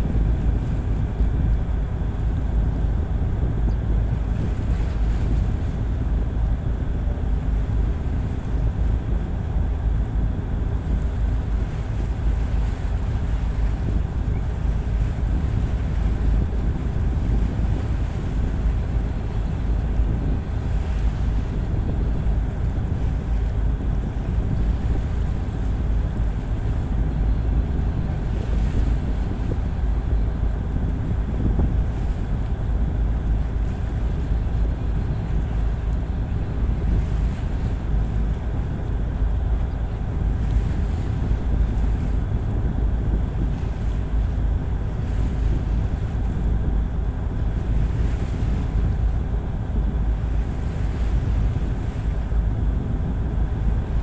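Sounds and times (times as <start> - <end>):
sea wash: 0.0 - 54.0
wind buffeting microphone: 0.0 - 54.0.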